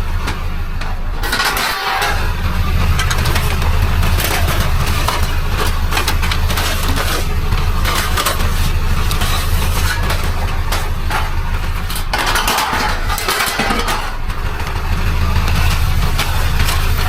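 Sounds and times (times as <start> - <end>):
sharp clattering rattles: 0.0 - 17.0
vehicle engine humming: 0.0 - 17.0.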